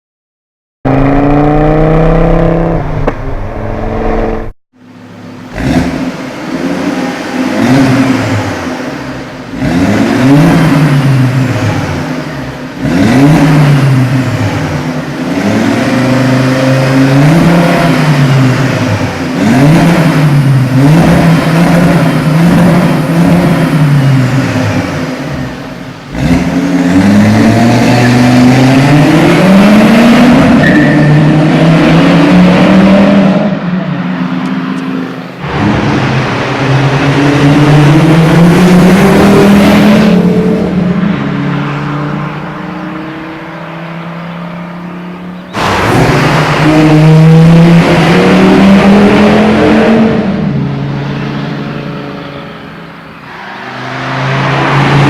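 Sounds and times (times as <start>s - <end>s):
car engine revving: 0.8s - 55.0s.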